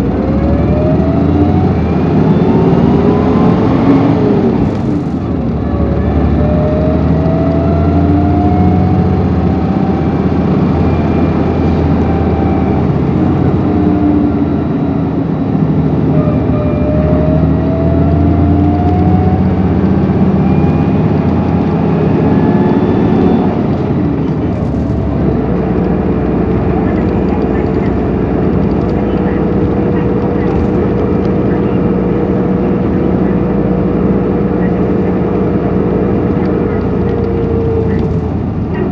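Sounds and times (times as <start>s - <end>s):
bus diesel engine drone: 0.0s - 38.9s
rising whine: 0.0s - 38.9s.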